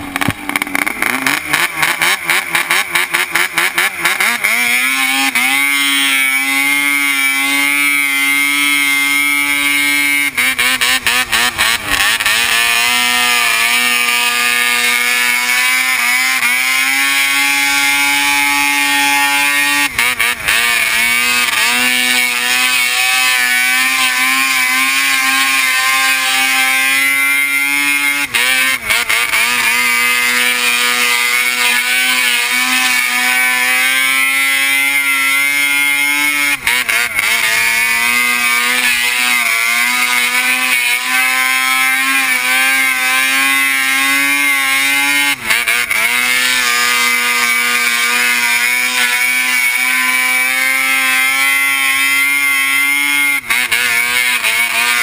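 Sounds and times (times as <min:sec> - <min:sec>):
snowmobile engine at high revs: 0:00.0 - 0:55.0.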